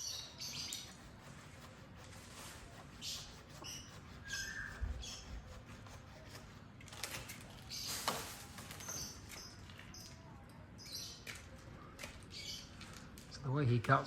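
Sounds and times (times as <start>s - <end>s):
small birds chirping: 0.0s - 6.3s, 7.2s - 13.8s
faint background noise: 0.0s - 14.0s.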